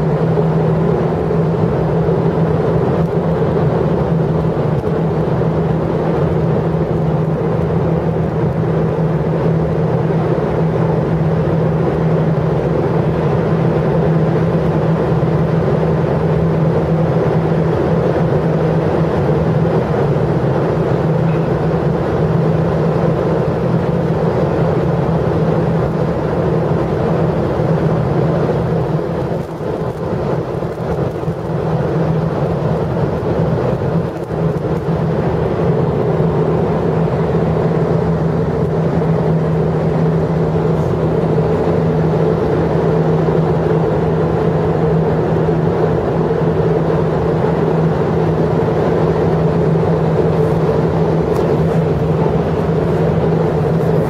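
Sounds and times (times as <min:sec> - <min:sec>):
mechanical hum and rumble: 0:00.0 - 0:54.0.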